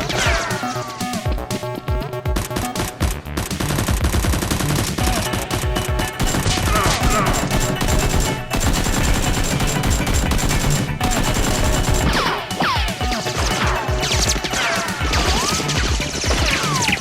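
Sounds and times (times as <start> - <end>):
music: 0.0 - 17.0
rapid automatic gunfire: 2.2 - 17.0.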